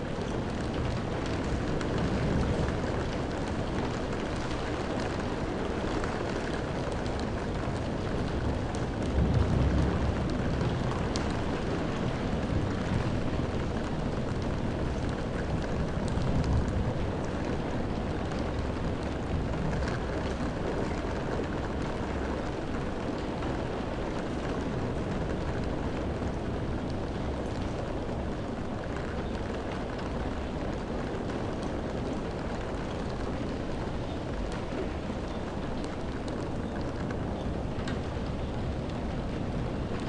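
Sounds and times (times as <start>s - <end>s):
heavy rain on window glass: 0.0s - 40.0s.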